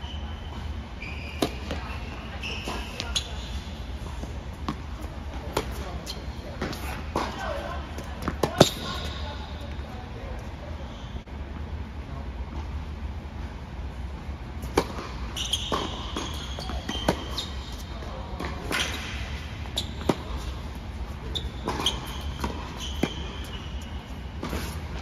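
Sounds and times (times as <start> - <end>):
sneakers squeaking on court: 0.0 - 10.0, 14.7 - 25.0.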